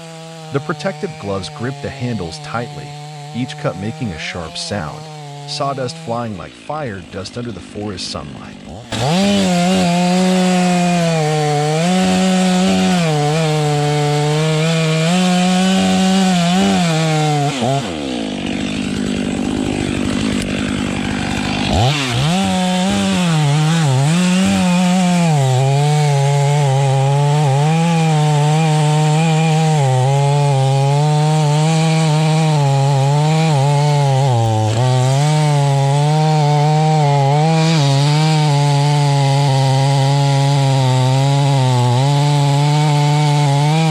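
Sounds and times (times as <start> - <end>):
chainsaw cutting through tree: 0.0 - 43.9.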